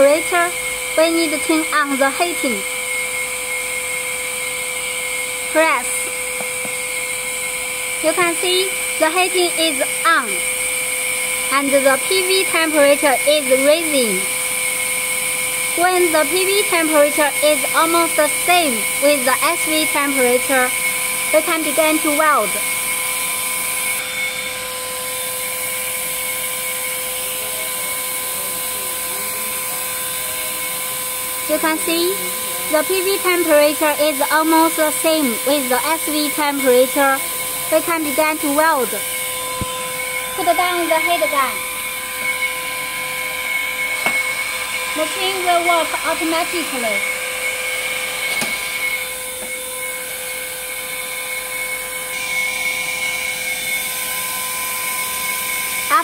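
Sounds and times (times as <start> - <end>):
welding blower whining: 0.0 - 56.0.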